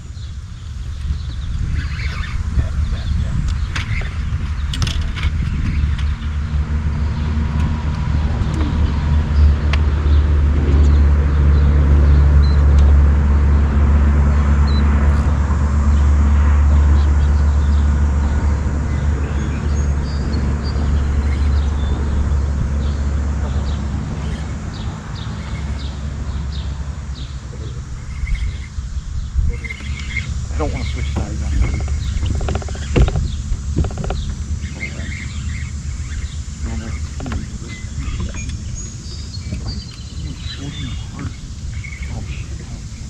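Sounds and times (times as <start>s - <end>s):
outboard motor drone: 0.0s - 43.0s
wind: 0.0s - 43.0s.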